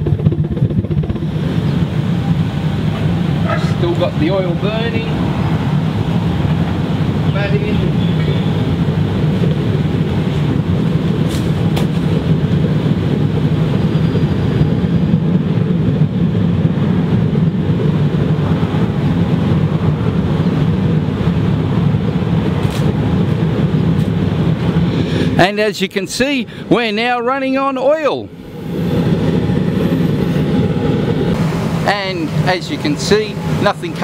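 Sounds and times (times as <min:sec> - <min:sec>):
oil burner blower rushing: 0:00.0 - 0:34.0.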